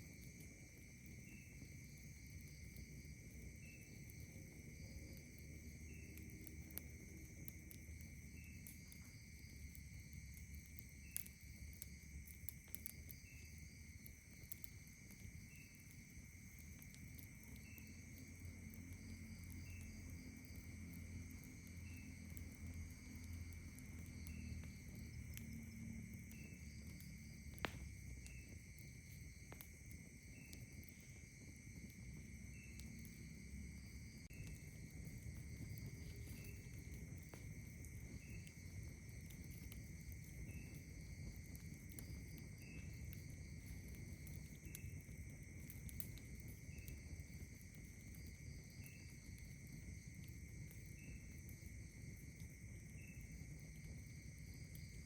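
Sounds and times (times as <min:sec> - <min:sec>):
campfire crackle: 0:00.0 - 0:55.0
night insects trilling: 0:00.0 - 0:55.0
short insect chirp: 0:00.0 - 0:55.0.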